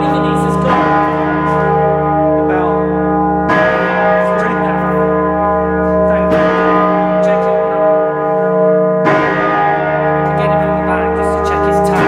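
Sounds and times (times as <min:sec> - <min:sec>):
large bell ringing: 0:00.0 - 0:12.0.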